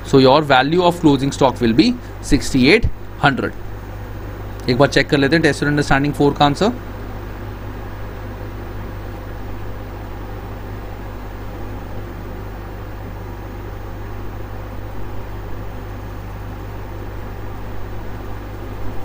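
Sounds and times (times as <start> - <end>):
constant hiss: 0.0 - 19.0.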